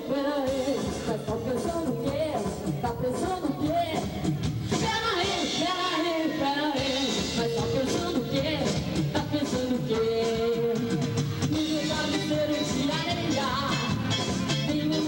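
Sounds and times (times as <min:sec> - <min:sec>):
drums keeping a steady beat: 0:00.0 - 0:15.0.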